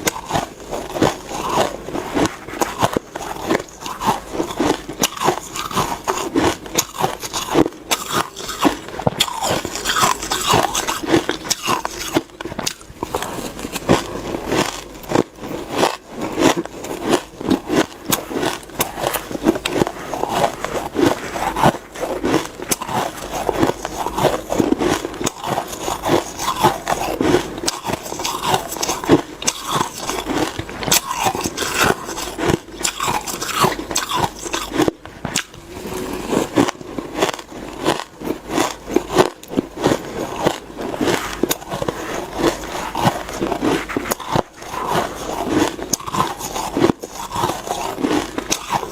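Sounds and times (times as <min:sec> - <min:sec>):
chewing shaved ice crunches: 0:00.0 - 0:48.9.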